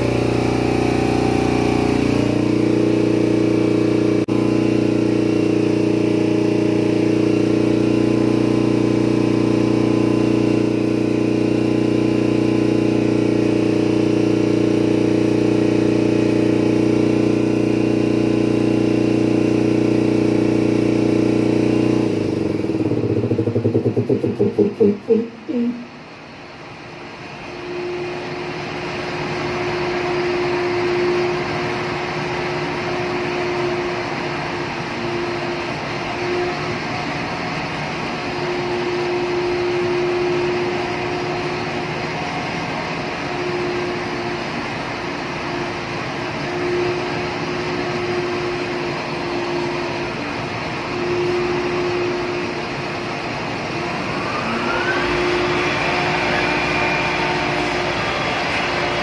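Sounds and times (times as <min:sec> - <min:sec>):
electric motor whine: 0:00.0 - 0:25.2, 0:27.5 - 0:37.3, 0:38.2 - 0:59.0
engine room machinery hum: 0:00.0 - 0:59.0.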